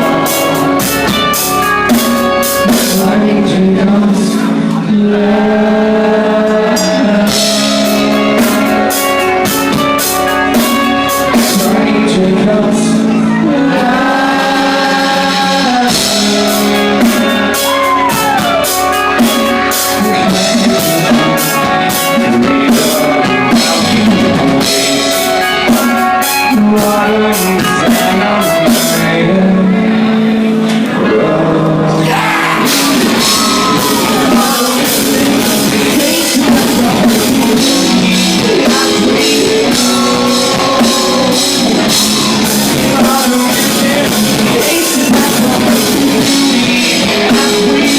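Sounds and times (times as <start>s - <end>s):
live rock band playing: 0.0s - 47.9s
man singing: 0.0s - 47.9s.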